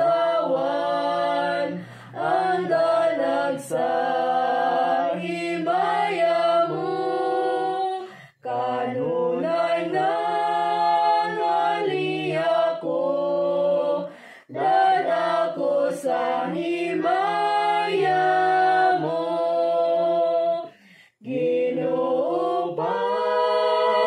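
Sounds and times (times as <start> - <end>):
woman and children singing: 0.0 - 24.0.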